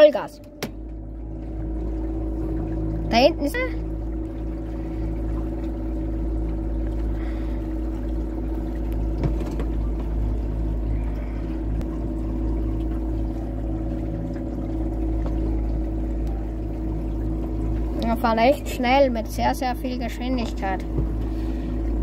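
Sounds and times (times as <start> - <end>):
electric boat motor whine: 0.0 - 22.0
rushing water: 0.0 - 22.0.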